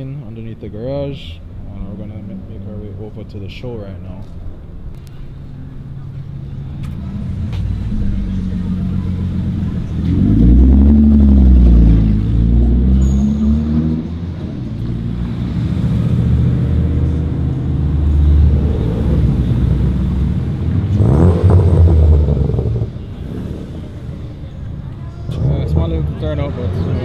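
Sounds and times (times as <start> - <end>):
car engines revving: 4.2 - 27.0.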